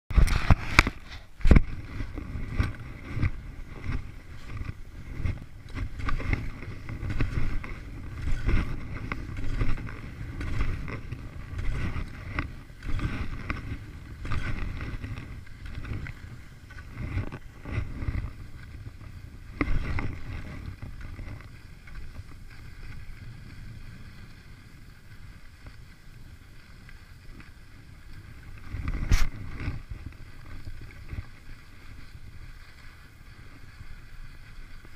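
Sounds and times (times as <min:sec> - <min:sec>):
skis scraping over snow: 0:00.1 - 0:34.9
wind on microphone: 0:00.1 - 0:34.9.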